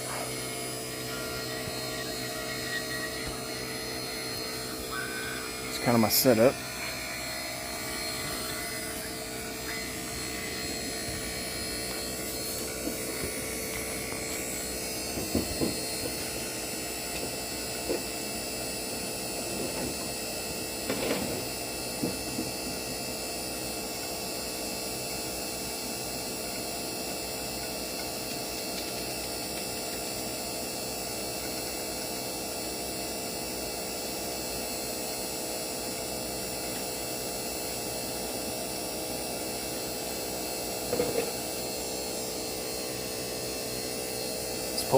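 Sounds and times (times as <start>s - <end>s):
vacuum pump humming: 0.0s - 44.9s.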